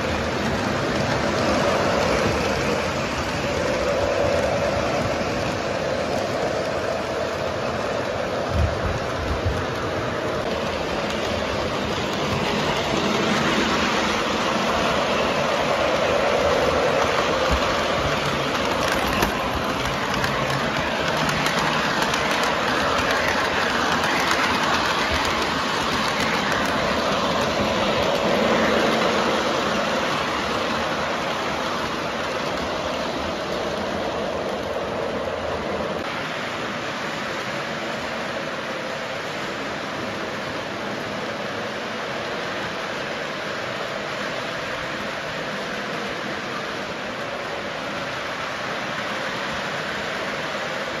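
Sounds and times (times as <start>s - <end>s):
model train running on track: 0.0s - 51.0s.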